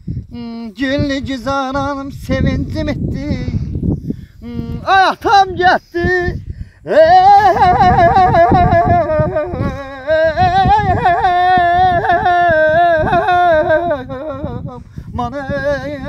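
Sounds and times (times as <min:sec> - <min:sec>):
man singing unaccompanied: 0:00.3 - 0:03.7, 0:04.4 - 0:16.0.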